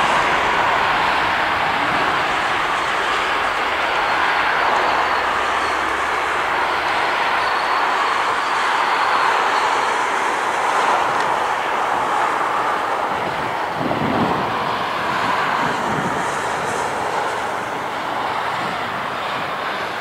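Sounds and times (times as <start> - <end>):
high thin engine whine: 0.0 - 20.0
jet engines roaring: 0.0 - 20.0.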